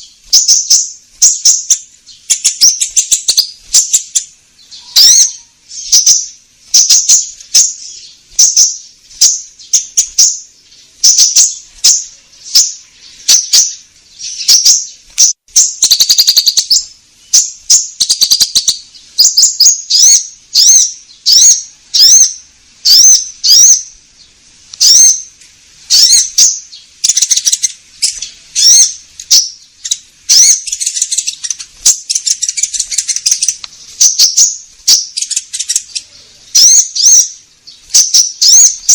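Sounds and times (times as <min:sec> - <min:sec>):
bird chattering: 0:00.0 - 0:38.9
high bird chirps: 0:00.0 - 0:38.9.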